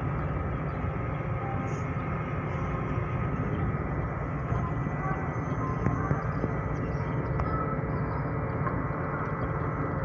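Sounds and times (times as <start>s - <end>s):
ship diesel engines rumbling: 0.0s - 10.0s.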